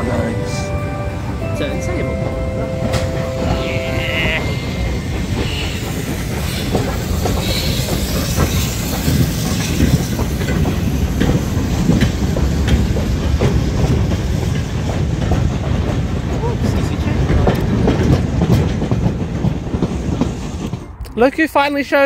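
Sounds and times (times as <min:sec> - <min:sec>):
train wagons rumbling: 0:00.0 - 0:22.0.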